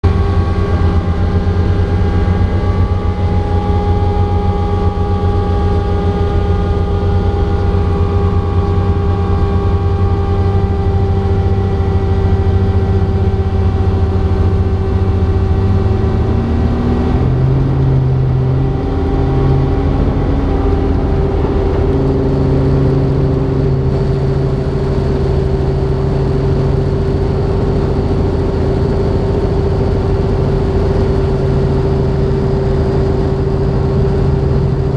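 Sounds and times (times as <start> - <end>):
helicopter engine and rotors droning: 0.0 - 34.9.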